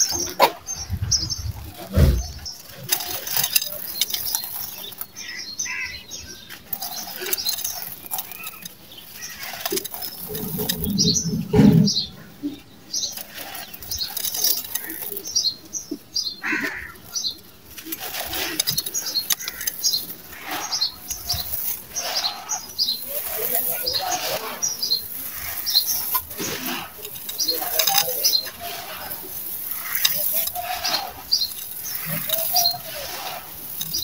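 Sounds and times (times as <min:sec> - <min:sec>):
sand and stones crunching under fingers: 0:00.0 - 0:34.0.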